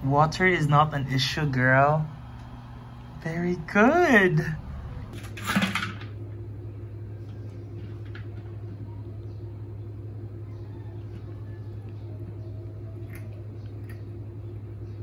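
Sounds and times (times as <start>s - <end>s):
steady low machine hum: 0.0s - 15.0s.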